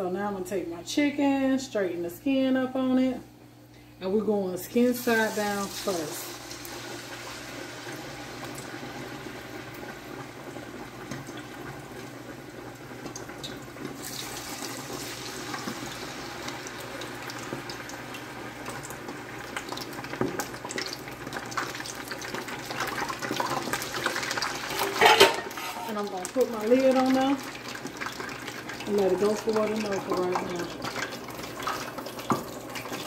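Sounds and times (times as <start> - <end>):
chicken frying in oil: 4.8 - 33.0.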